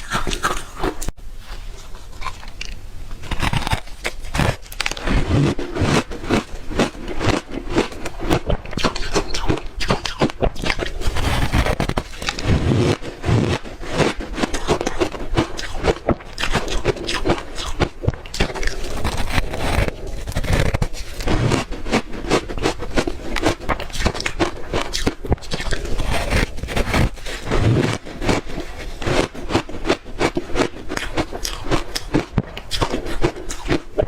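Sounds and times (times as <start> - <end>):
crunchy ice chewing: 0.0 - 1.1, 2.0 - 34.0.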